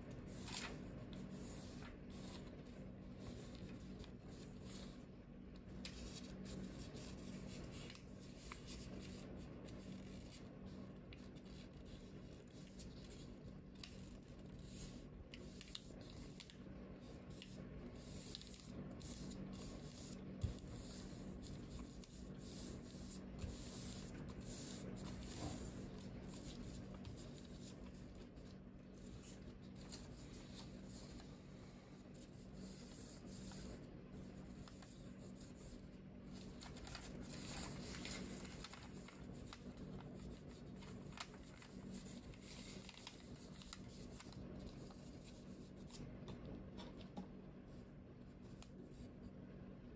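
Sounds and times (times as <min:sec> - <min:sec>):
paper being folded: 0:00.0 - 0:47.1
low steady hum: 0:00.0 - 0:49.9.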